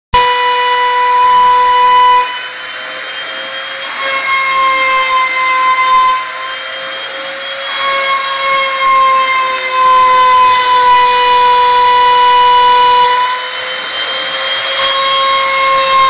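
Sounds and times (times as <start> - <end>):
cnc router whining: 0.1 - 16.0.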